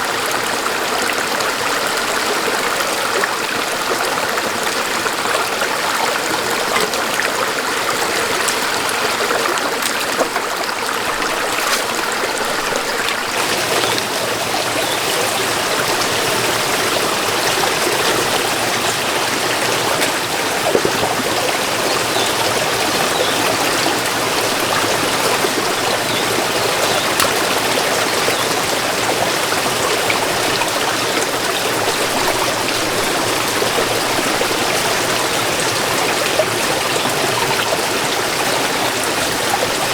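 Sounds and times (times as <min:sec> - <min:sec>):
water running: 0:02.1 - 0:36.6.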